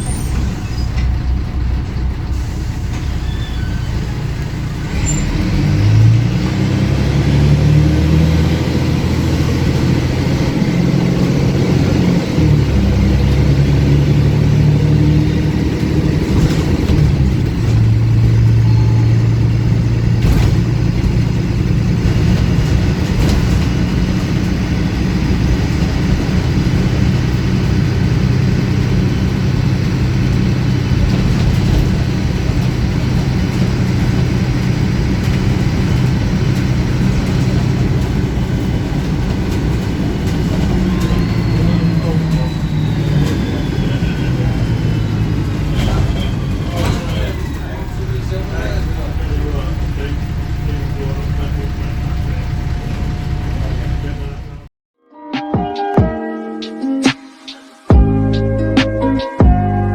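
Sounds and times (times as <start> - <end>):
bus diesel engine running: 0.0 - 54.7.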